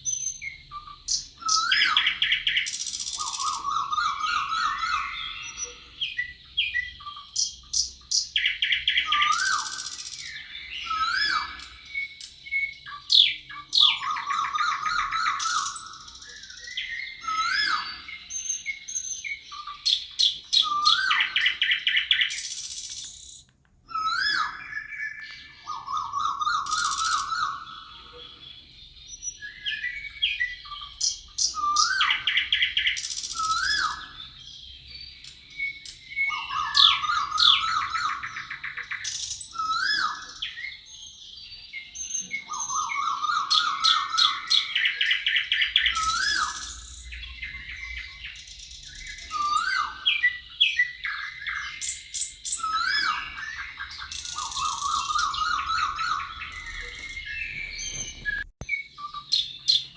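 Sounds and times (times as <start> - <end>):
songbirds singing and chirping: 0.0 - 59.9.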